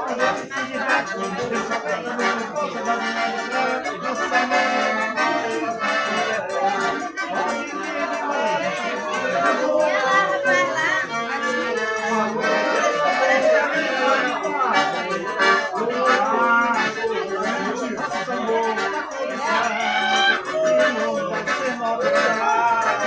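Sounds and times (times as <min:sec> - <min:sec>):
accordion-led traditional music: 0:00.0 - 0:23.0.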